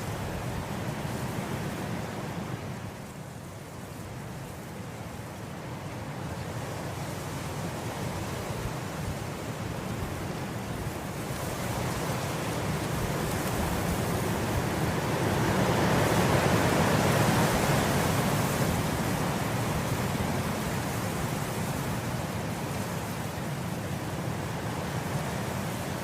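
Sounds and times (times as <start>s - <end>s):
wind blowing through grass: 0.0s - 26.0s.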